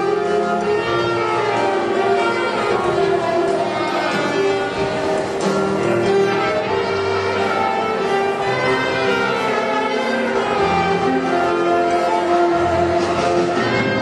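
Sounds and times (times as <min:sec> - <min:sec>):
old-time dance band music: 0:00.0 - 0:14.0.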